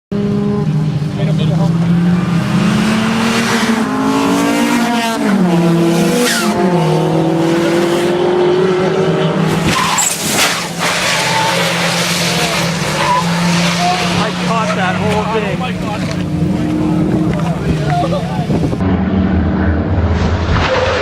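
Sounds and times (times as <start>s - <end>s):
rally car engine revving: 0.1s - 21.0s
tyres skidding: 0.8s - 18.8s.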